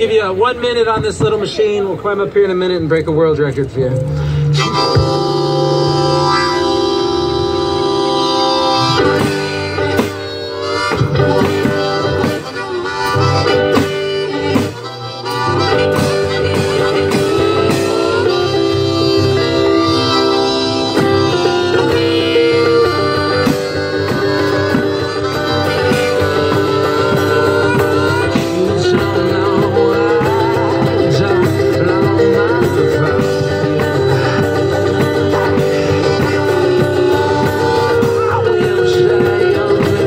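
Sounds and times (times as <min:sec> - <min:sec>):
acoustic guitar: 0:03.4 - 0:40.0
harmonica chords: 0:03.9 - 0:40.0
drum strikes: 0:04.6 - 0:40.0.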